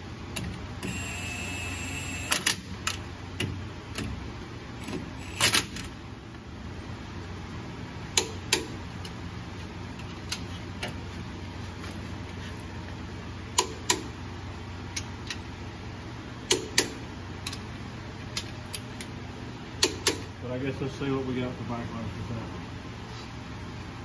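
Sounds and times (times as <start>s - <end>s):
low steady shop hum: 0.0s - 24.0s.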